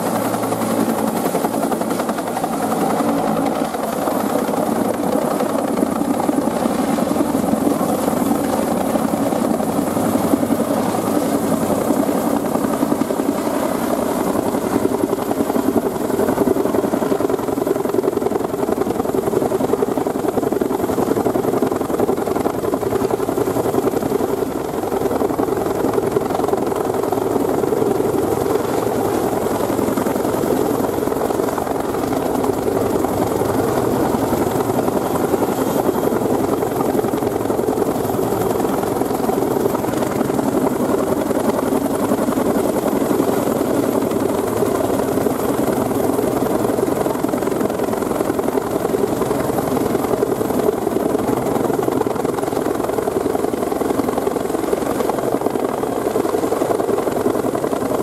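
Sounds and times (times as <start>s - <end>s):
helicopter rotor beating: 0.0s - 58.0s.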